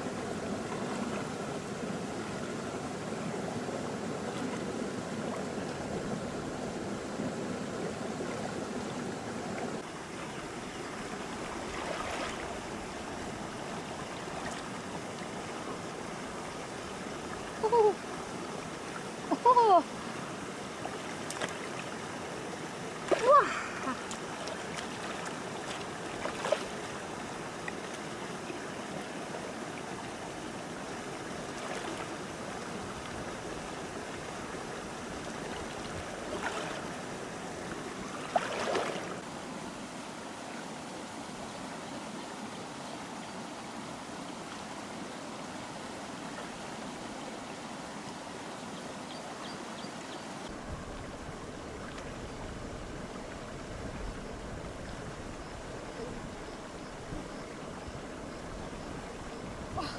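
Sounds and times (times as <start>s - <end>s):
river water running: 0.0s - 59.9s.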